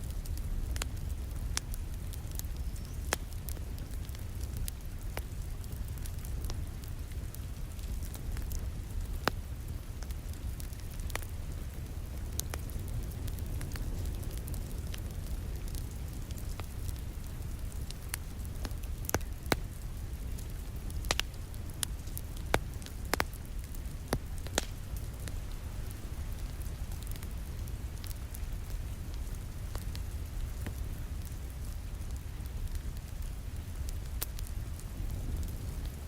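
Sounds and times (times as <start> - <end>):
wood fire crackling: 0.0 - 36.0
fire pops: 0.1 - 36.0
rain hissing against window: 1.0 - 36.0.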